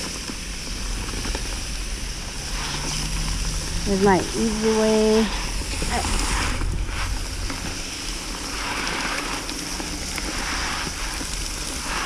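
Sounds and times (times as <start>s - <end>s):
hose water spraying into tub: 0.0s - 12.0s
low steady rumble: 0.0s - 12.0s.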